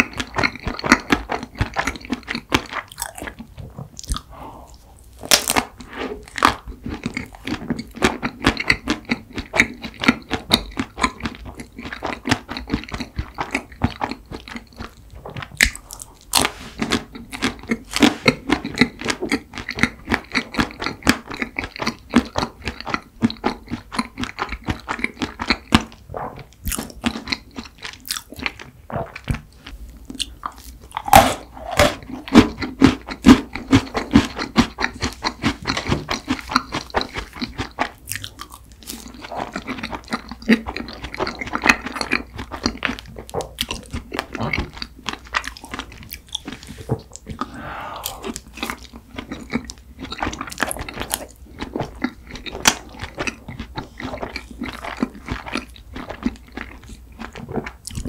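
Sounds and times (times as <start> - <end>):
crunchy chewing: 0.0 - 58.0.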